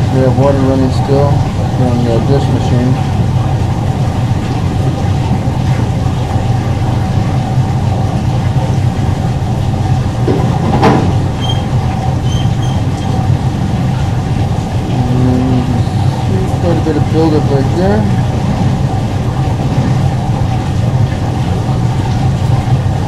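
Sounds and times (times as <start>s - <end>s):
machinery drone: 0.0s - 23.0s.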